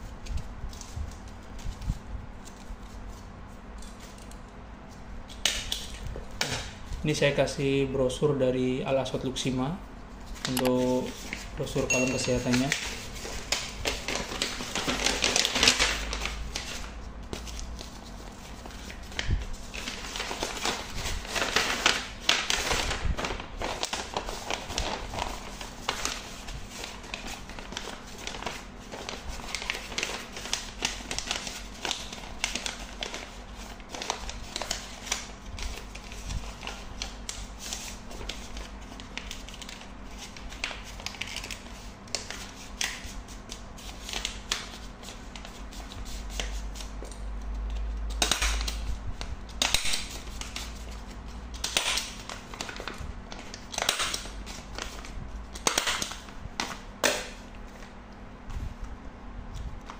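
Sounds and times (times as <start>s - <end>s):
paper envelope rustling: 0.0s - 4.4s, 10.1s - 57.9s.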